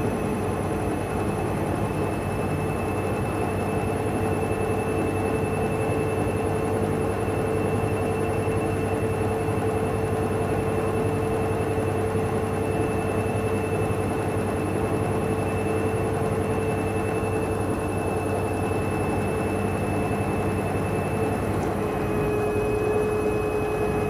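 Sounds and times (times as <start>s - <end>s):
washing machine motor whine: 0.0s - 24.0s.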